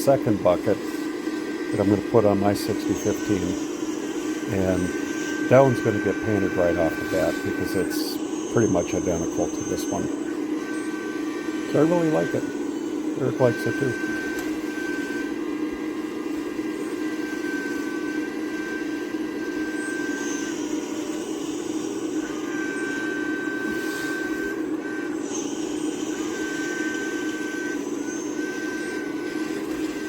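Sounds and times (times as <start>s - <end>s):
excavator hum: 0.0s - 30.0s
high hydraulic whine: 0.0s - 30.0s.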